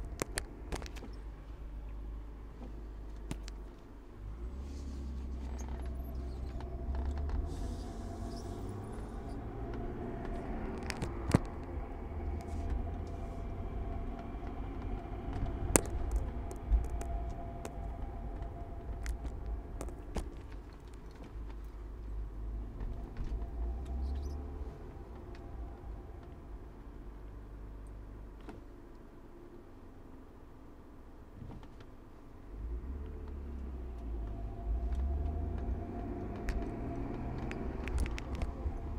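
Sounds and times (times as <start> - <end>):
car driving low rumble: 0.0 - 38.9.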